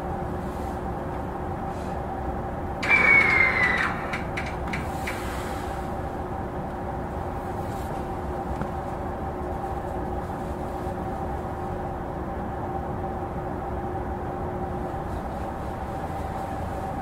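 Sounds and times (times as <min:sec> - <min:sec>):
electric train equipment hum: 0:00.0 - 0:17.0.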